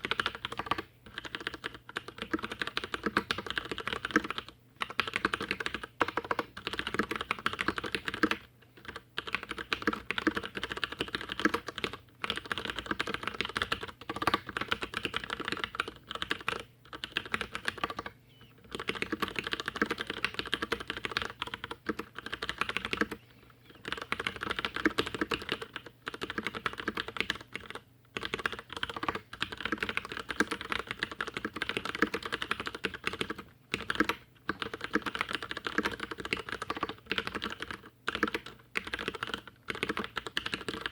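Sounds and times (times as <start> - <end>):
fast typing on mechanical keyboard: 0.0 - 23.2, 23.8 - 40.9.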